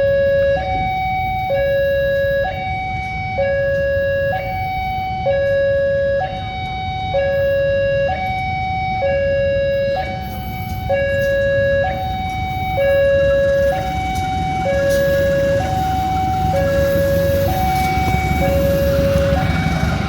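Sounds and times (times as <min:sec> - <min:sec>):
road traffic rumble: 0:00.0 - 0:20.0
two-tone level-crossing alarm: 0:00.0 - 0:20.0.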